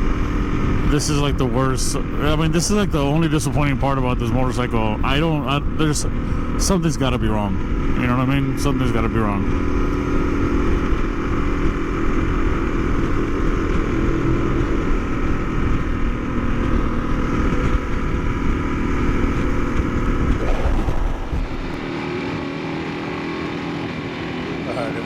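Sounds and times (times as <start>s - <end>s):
wind rumble on microphone: 0.0s - 22.5s
motorcycle engine running: 0.0s - 25.0s.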